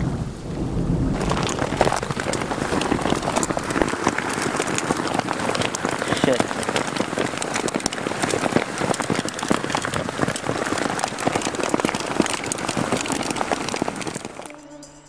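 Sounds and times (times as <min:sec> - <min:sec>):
heavy rain on a canoe: 0:00.0 - 0:14.6
raindrops ticking near microphone: 0:00.0 - 0:14.6.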